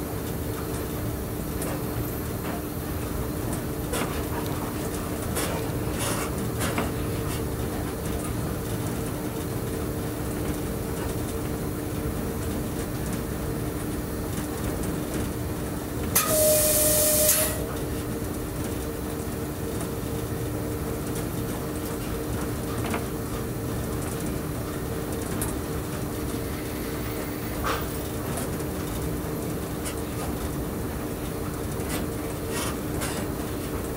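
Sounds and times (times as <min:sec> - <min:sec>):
electric train running hum: 0:00.0 - 0:33.9.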